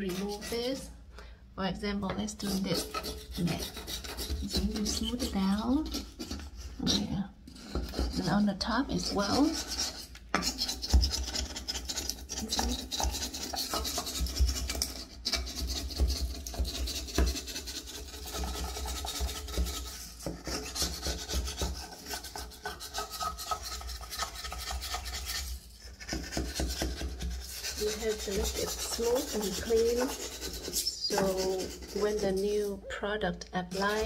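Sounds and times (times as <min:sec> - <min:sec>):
tool scraping caulk off tile: 0:02.4 - 0:06.6, 0:09.0 - 0:32.7.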